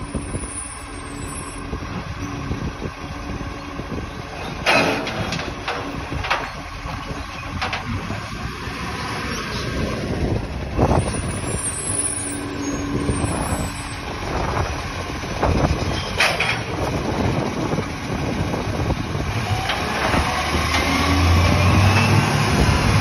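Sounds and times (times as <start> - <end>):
recycling truck engine running: 0.0 - 23.0.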